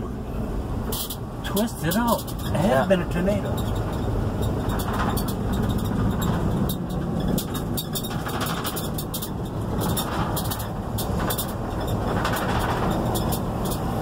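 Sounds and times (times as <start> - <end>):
vehicle engine and tyre rumble: 0.0 - 14.0.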